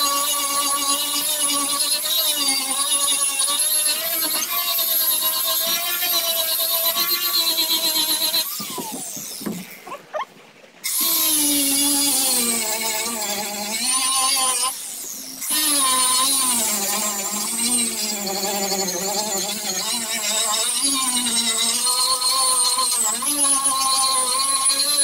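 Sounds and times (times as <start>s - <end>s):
electric grinder grinding: 0.0s - 9.7s, 10.8s - 25.0s.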